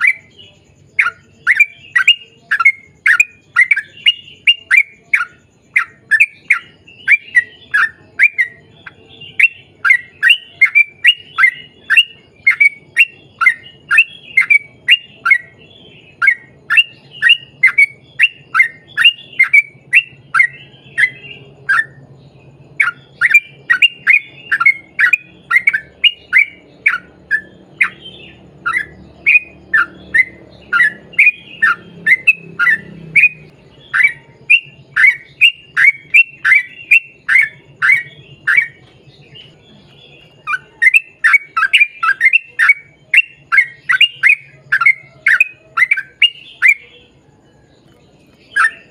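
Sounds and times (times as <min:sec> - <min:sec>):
bird calling in rapid notes: 0:00.0 - 0:48.9.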